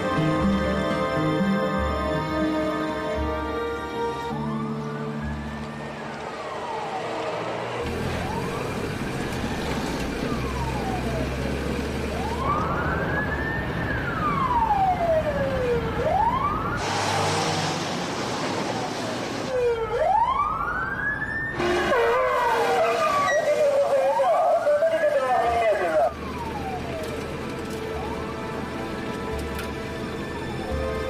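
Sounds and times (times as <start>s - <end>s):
siren wailing: 0.0s - 16.8s, 19.5s - 29.0s, 29.8s - 31.0s.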